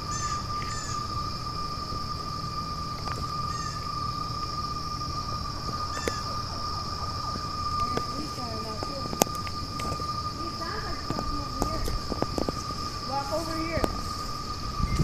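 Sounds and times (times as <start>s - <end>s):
insect-like buzz: 0.0s - 15.0s
low rumble: 0.0s - 15.0s.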